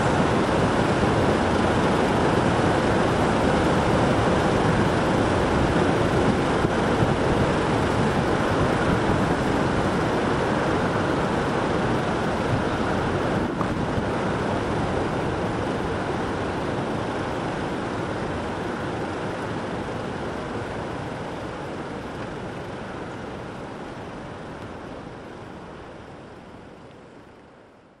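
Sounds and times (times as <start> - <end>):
jet engines rushing at taxi power: 0.0 - 27.6.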